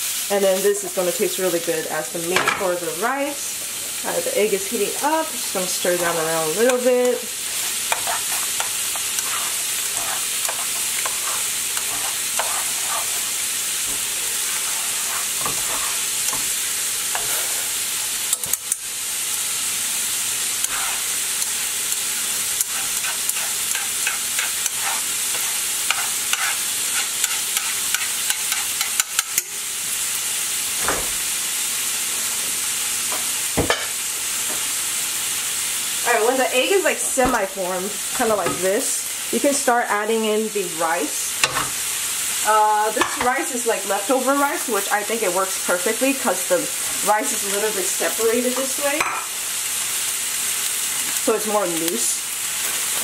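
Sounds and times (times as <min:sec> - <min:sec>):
eggs sizzling in hot oil: 0:00.0 - 0:53.0.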